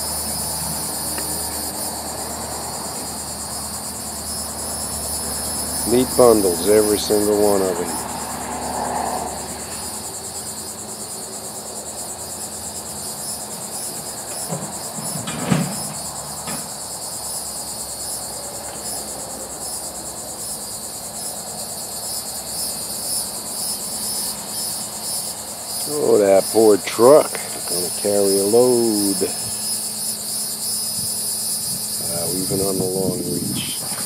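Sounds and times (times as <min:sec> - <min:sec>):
insect trilling: 0:00.0 - 0:34.0.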